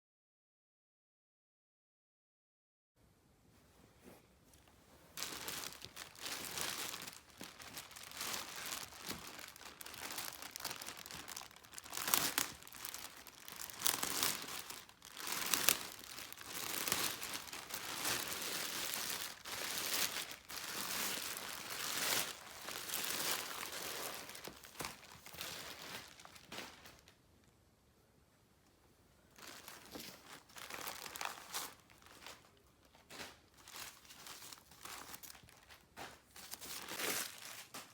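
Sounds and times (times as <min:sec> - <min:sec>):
packaging crinkling and rustling: 0:05.1 - 0:27.2, 0:29.3 - 0:37.9.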